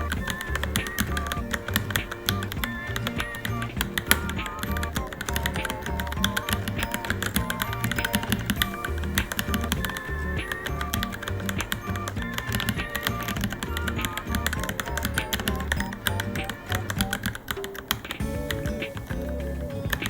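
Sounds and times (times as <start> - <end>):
background music with bass: 0.0 - 17.5, 18.2 - 20.0
mechanical keyboard typing: 0.0 - 20.0.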